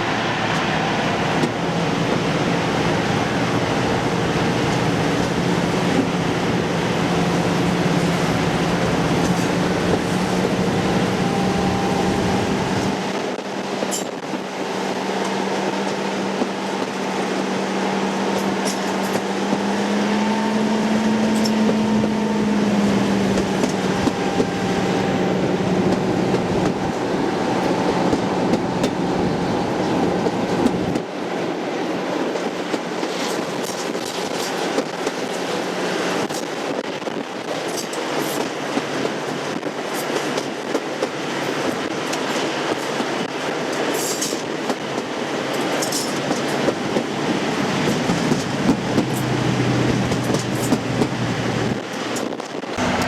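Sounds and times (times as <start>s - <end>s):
diesel locomotive engine running: 0.0s - 53.0s
train rail noise: 0.0s - 53.0s.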